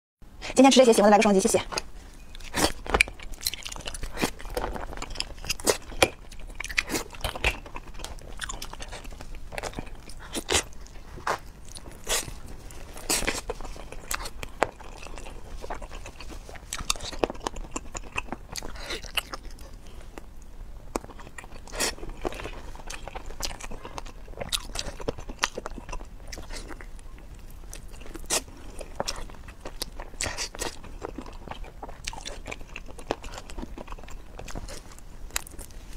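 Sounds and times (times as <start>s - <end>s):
person chewing and crunching: 1.7s - 35.9s.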